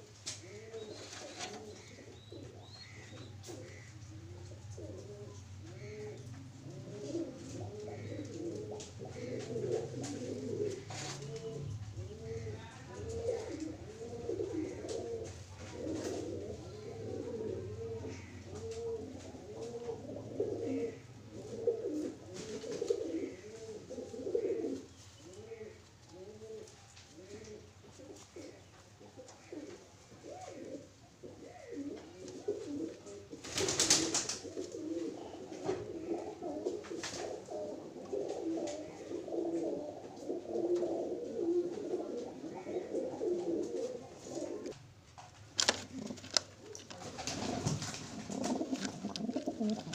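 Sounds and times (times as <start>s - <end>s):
pigeons cooing: 0.0s - 44.8s, 45.6s - 49.9s.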